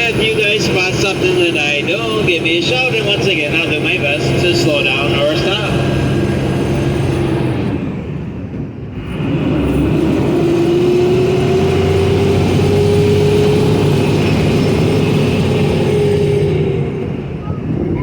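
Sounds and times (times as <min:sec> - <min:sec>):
drivetrain whine: 0:00.0 - 0:18.0
vehicle engine running: 0:00.0 - 0:18.0.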